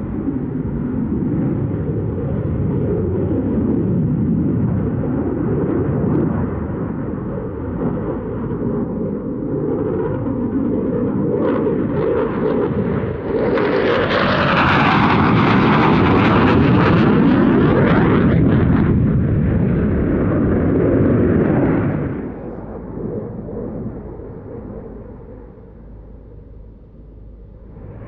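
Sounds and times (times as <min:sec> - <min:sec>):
fighter jet afterburner roar: 0:00.0 - 0:28.0.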